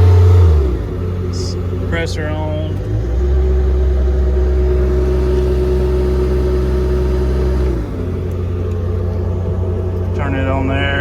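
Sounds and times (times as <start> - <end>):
air compressor whining: 0.0 - 11.0
engine running: 0.0 - 11.0.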